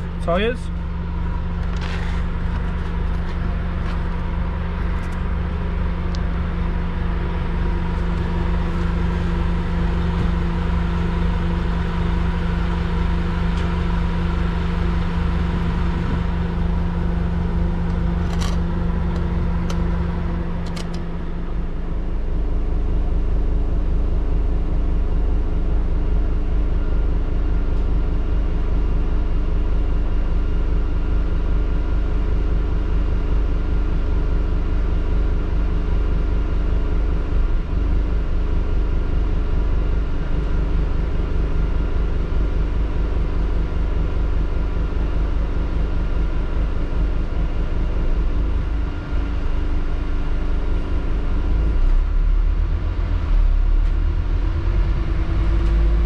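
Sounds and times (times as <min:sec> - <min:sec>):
deep engine drone inside bus: 0:00.0 - 0:56.0
diesel bus engine idling: 0:00.0 - 0:56.0.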